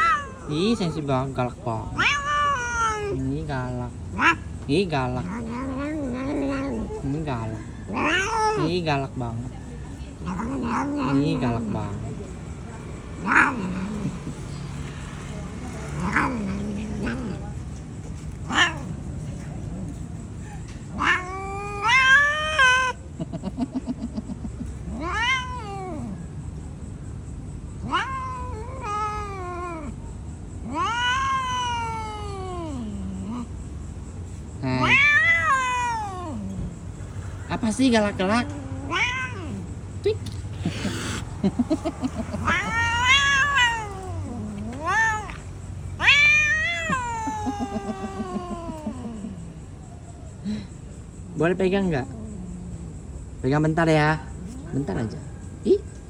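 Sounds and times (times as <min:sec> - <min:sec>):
cat yowling: 0:00.0 - 0:12.0, 0:12.9 - 0:17.6, 0:18.4 - 0:19.1, 0:19.7 - 0:23.1, 0:24.8 - 0:26.4, 0:27.8 - 0:33.5, 0:34.6 - 0:56.0
cat growling: 0:00.0 - 0:23.7, 0:24.3 - 0:26.6, 0:27.8 - 0:56.0.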